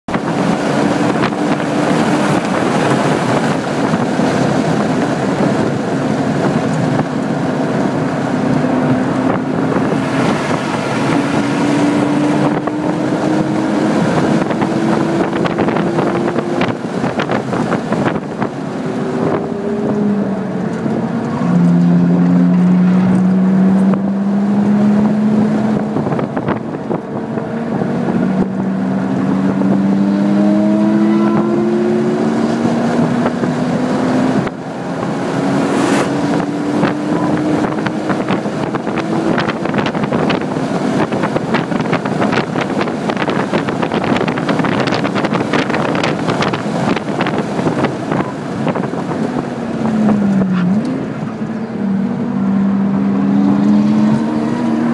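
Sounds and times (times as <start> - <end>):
wind and road noise: 0.0 - 54.9
car engine accelerating: 0.1 - 54.9.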